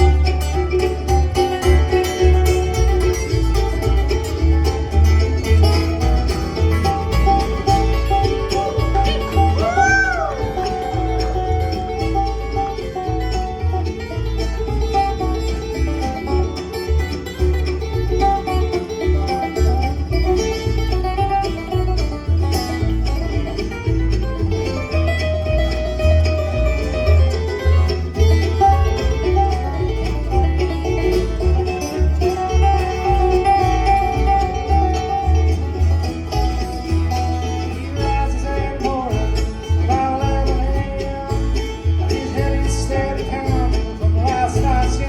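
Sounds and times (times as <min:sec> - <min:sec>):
bluegrass banjo and guitar music: 0:00.0 - 0:45.0.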